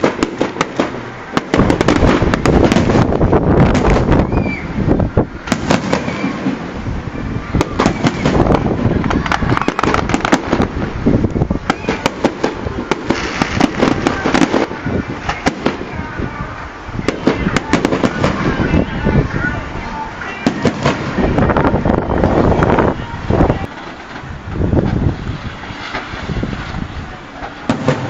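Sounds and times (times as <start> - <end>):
crowd voices: 0.0 - 28.0
fireworks cracking and banging: 0.0 - 28.0.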